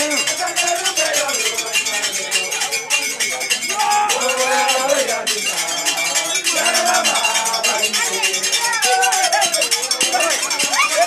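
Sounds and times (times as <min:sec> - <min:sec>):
rapid metallic percussion clatter: 0:00.0 - 0:11.0
voices singing and chanting: 0:00.0 - 0:11.0.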